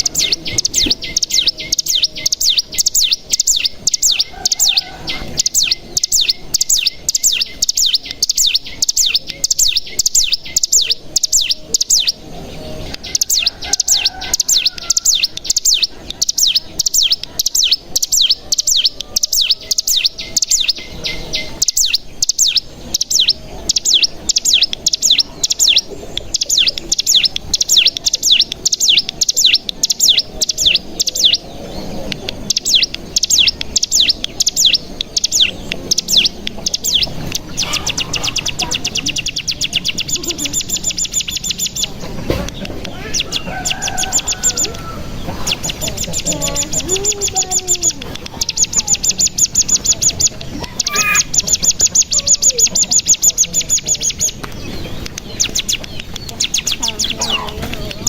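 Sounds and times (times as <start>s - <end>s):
bird singing fast trill: 0.0s - 58.0s.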